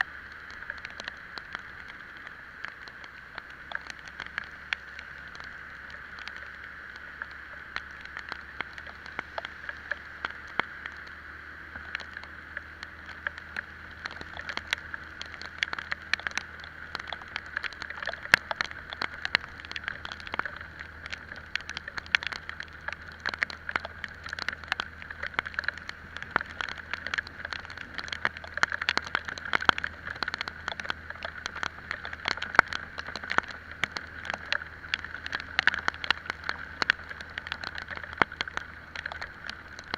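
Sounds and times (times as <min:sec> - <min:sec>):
raindrops tapping microphone: 0:00.0 - 0:39.9
wind and road hiss: 0:00.0 - 0:39.9.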